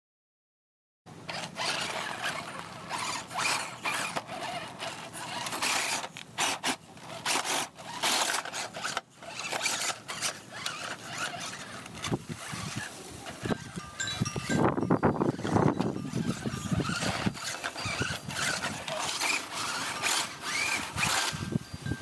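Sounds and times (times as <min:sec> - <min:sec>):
toy car motor whirring: 0:01.3 - 0:22.0.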